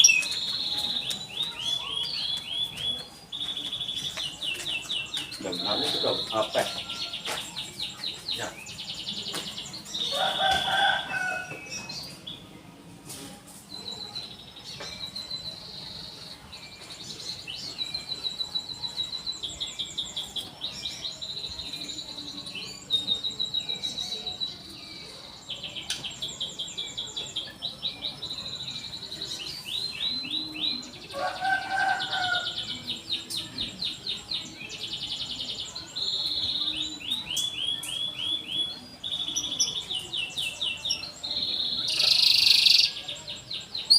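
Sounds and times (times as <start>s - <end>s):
canary singing trills: 0.0s - 12.4s, 13.8s - 43.9s.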